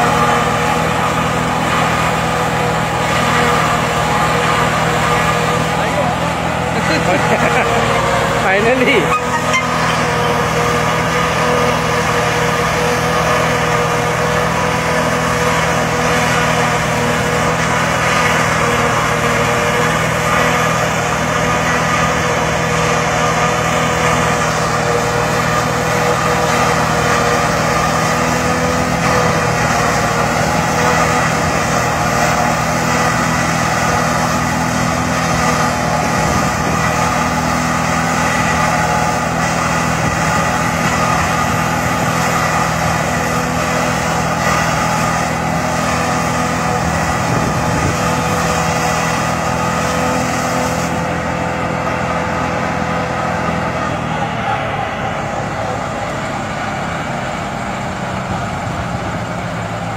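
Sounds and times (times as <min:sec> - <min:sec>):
tractor and harvester droning: 0:00.0 - 0:59.9.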